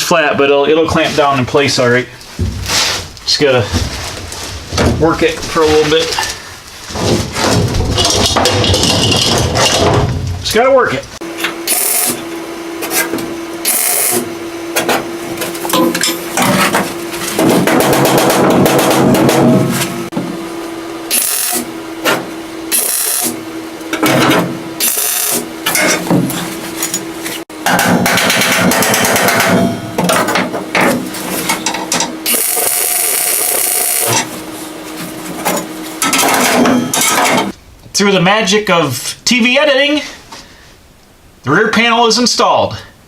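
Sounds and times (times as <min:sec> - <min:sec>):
steady hum: 0:00.0 - 0:41.5.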